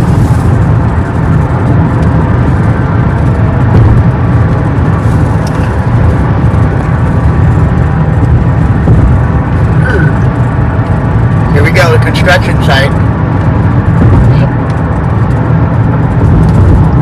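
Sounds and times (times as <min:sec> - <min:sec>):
car driving at highway speed: 0:00.0 - 0:17.0.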